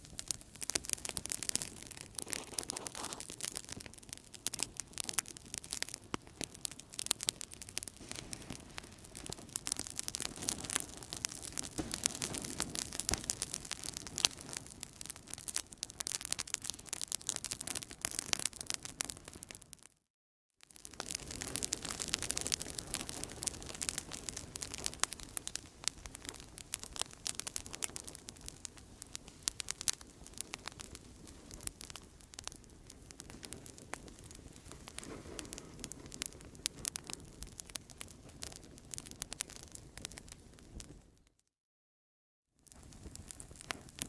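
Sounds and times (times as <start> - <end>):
campfire crackling: 0.0 - 19.9, 20.8 - 41.0, 42.7 - 44.0.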